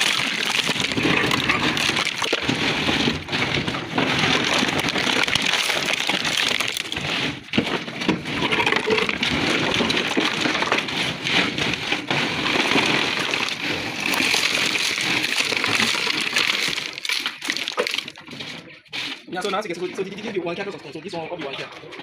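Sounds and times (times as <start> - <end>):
stone slabs clattering and scraping: 0.0 - 22.0.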